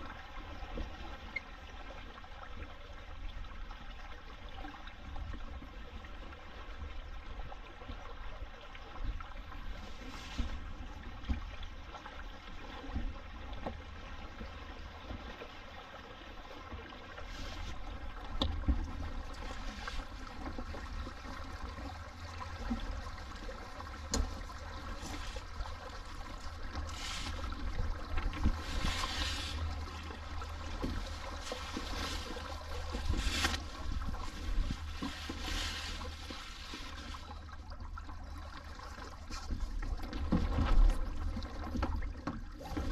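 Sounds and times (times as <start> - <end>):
water rushing along hull: 0.0 - 42.9.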